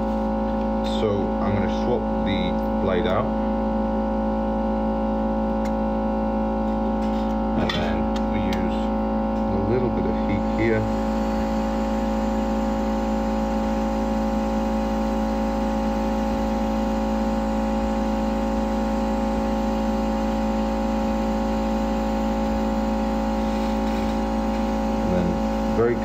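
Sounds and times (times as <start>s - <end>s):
hot air gun whirring: 5.1s - 26.0s.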